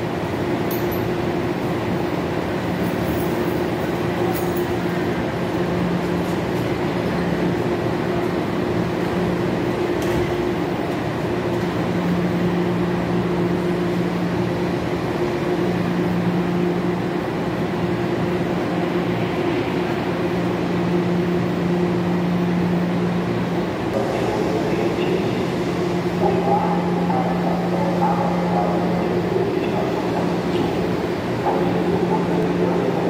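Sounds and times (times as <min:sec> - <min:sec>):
train equipment humming: 0:00.0 - 0:33.0.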